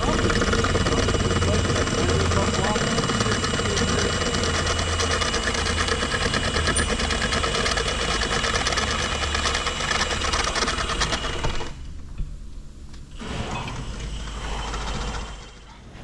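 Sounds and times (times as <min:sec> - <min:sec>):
engine idling with clatter: 0:00.0 - 0:12.2, 0:13.0 - 0:16.0.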